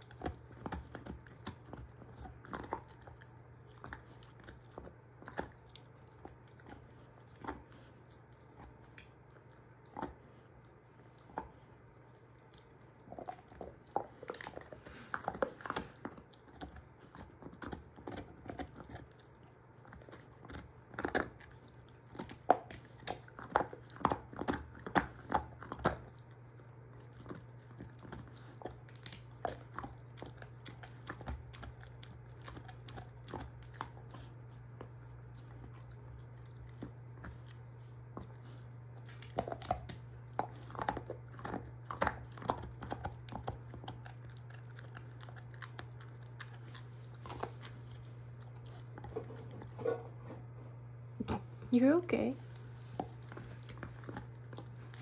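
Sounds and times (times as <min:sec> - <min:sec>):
dog gnawing on a bone: 0:00.0 - 0:55.0
steady low hum: 0:00.0 - 0:55.0.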